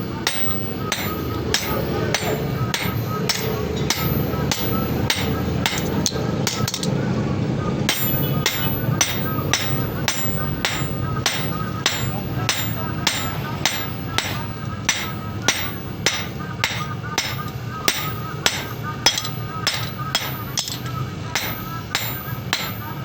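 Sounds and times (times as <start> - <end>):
hammer striking metal on anvil: 0.0 - 6.9, 7.9 - 23.0.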